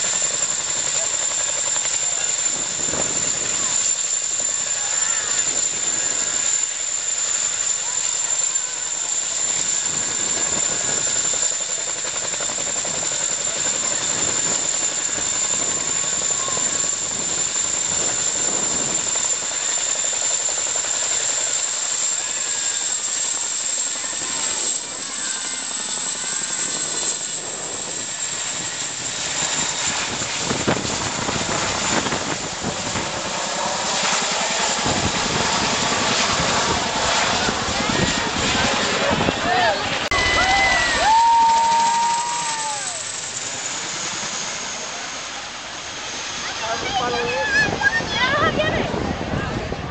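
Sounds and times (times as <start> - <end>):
helicopter rotor rush: 0.0 - 49.9
turbine engine whine: 0.0 - 49.9.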